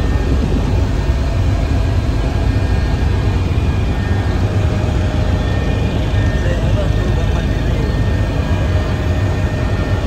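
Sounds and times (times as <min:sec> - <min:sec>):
faint steady whine: 0:00.0 - 0:10.0
helicopter rumble: 0:00.0 - 0:10.0.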